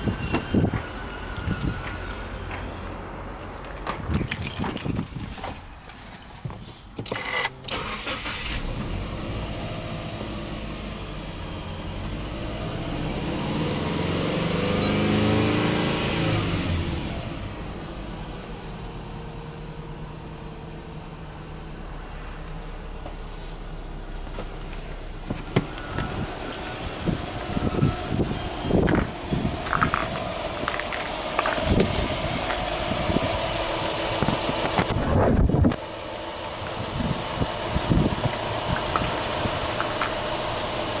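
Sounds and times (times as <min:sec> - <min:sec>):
car engine starting and idling: 0:07.0 - 0:41.0
car engine revving: 0:07.7 - 0:41.0.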